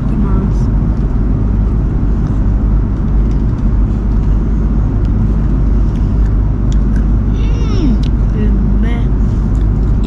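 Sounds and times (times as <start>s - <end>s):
jet cabin rumble: 0.0s - 10.0s.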